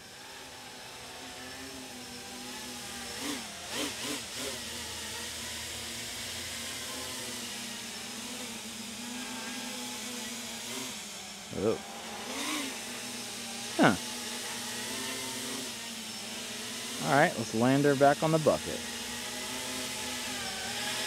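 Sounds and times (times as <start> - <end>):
quadcopter motor and propeller hum: 0.0 - 21.0.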